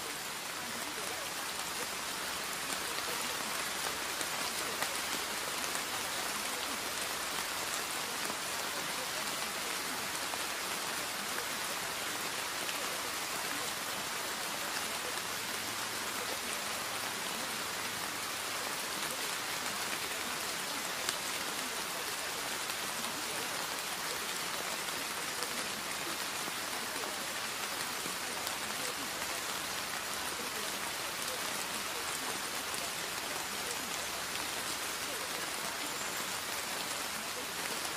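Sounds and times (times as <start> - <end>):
steady rain hiss: 0.0 - 37.9.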